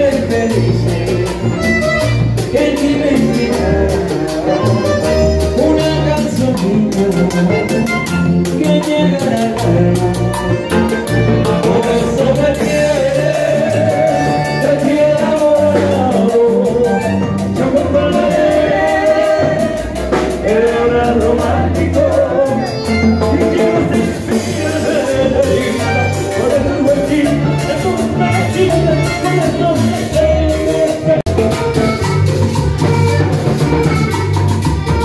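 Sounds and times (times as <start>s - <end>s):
male lead singer: 0.0s - 32.1s
accordion: 0.0s - 35.0s
bass guitar: 0.0s - 35.0s
congas and timbales beat: 0.0s - 35.0s
keyboard: 0.0s - 35.0s.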